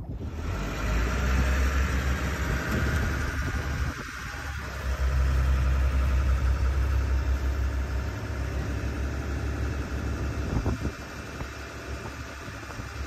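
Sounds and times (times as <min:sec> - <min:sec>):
boat motor humming: 0:00.3 - 0:13.0.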